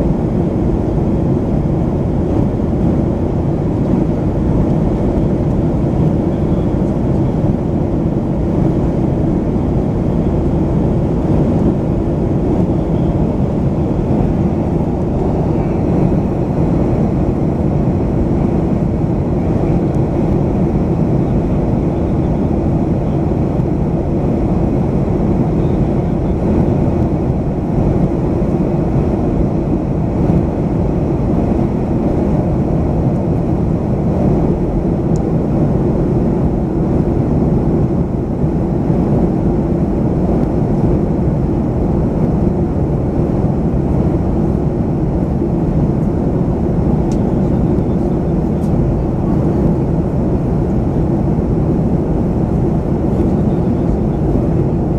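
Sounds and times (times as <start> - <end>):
air rushing over fuselage: 0.0 - 54.9
airplane cabin engine drone: 0.0 - 54.9.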